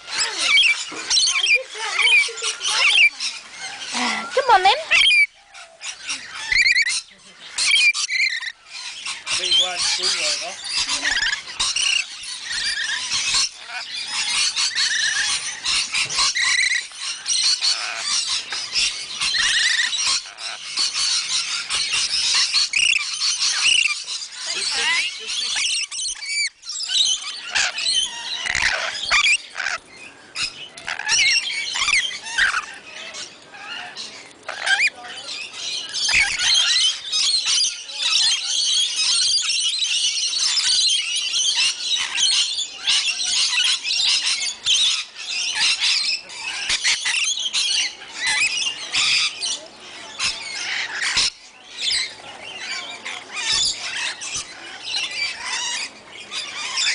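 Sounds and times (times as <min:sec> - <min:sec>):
lorikeets screeching and chattering: 0:00.0 - 0:56.9.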